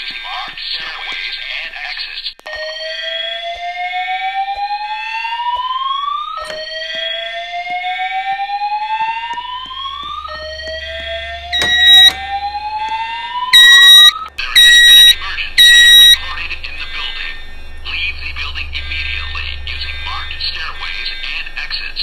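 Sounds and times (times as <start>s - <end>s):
alarm steady blast: 2.5s - 21.7s
fire alarm whoop tone: 2.5s - 21.8s.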